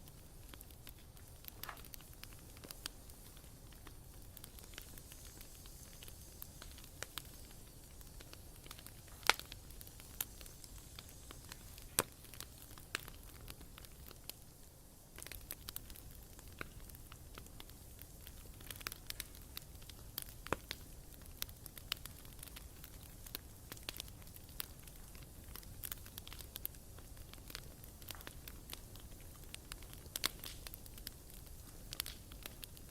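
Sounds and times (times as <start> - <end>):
bonfire hissing: 0.0 - 32.9
crackles and pops of burning wood: 0.0 - 32.9.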